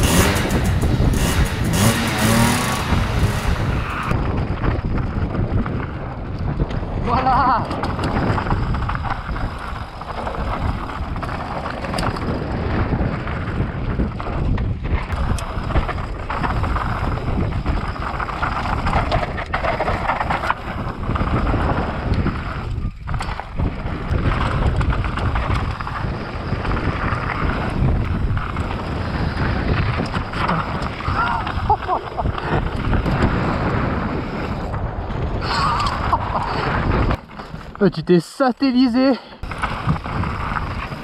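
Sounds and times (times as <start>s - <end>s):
wind on microphone: 0.0s - 37.8s, 39.4s - 41.0s
mountain bike rattling on dirt trail: 0.0s - 41.0s.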